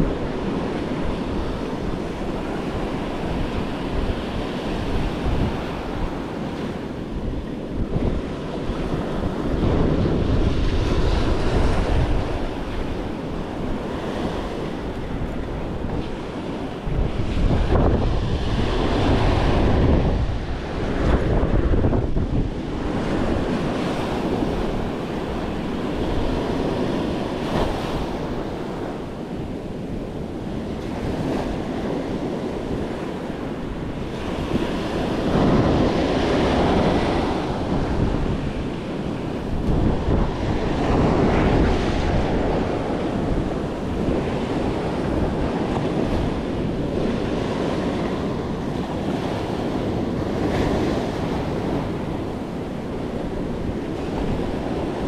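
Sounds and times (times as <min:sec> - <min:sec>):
surf breaking on beach: 0:00.0 - 0:55.0
wind buffeting microphone: 0:00.0 - 0:55.0.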